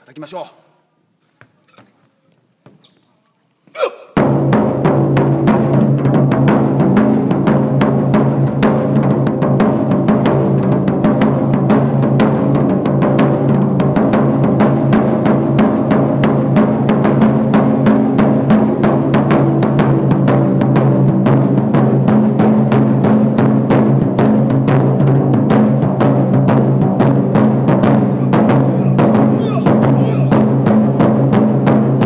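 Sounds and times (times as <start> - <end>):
taiko drum beaten fast: 4.2 - 32.0.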